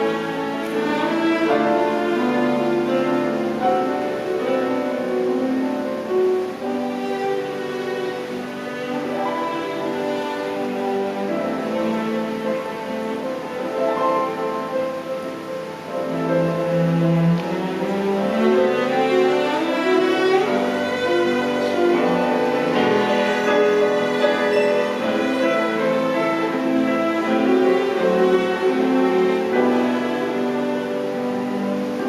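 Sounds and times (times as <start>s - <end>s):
bowed strings playing: 0.0s - 32.0s
pianos playing: 0.0s - 32.0s.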